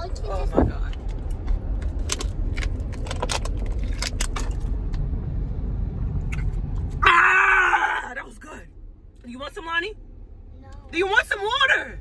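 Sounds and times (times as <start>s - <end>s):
road rumble inside car: 0.0s - 12.0s.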